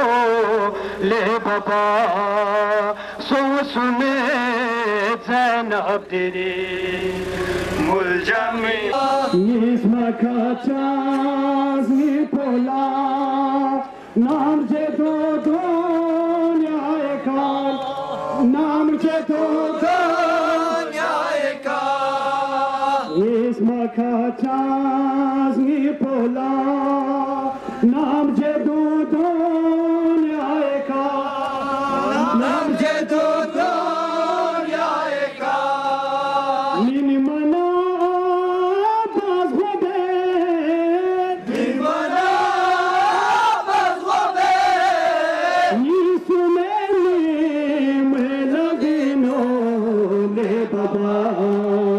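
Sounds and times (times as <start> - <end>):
man chanting into a microphone: 0.0 - 7.2, 7.8 - 41.9, 45.0 - 51.9.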